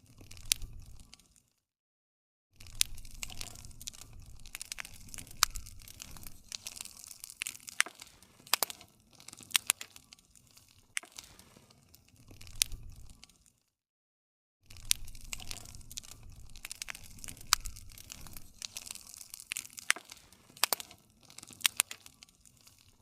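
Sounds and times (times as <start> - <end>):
campfire crackling and popping: 0.0 - 1.4, 2.6 - 13.6, 14.7 - 23.0.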